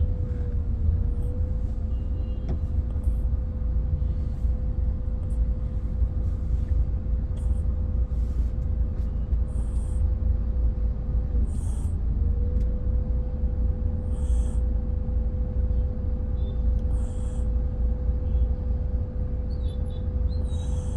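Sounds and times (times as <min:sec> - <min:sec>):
constant hum: 0:00.0 - 0:20.9.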